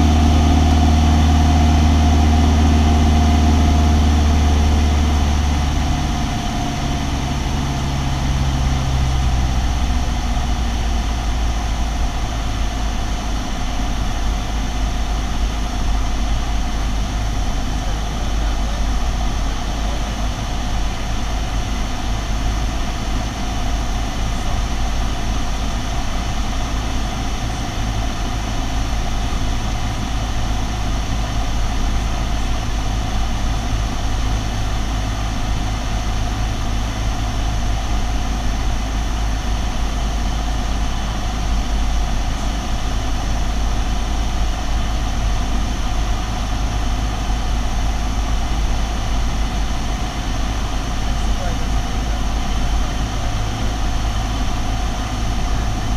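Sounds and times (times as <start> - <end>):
propeller airplane engine droning: 0.0 - 55.9.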